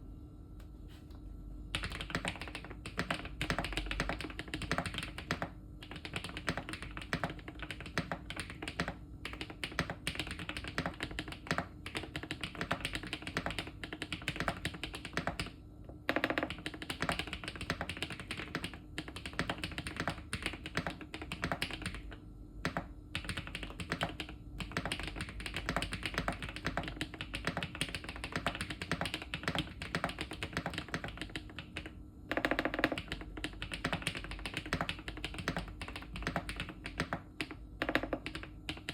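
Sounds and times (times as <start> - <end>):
fast mechanical keyboard typing: 1.7 - 38.9.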